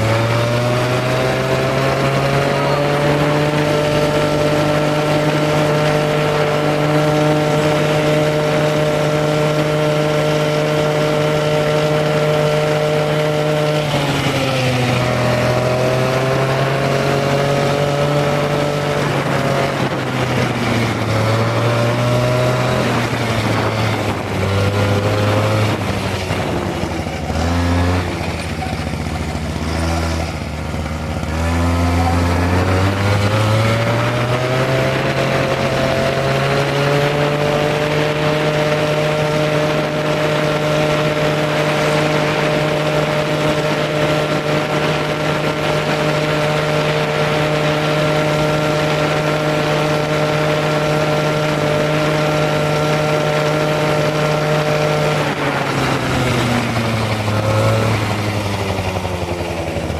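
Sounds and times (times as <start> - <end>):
motor scooter engine running: 0.0 - 59.9.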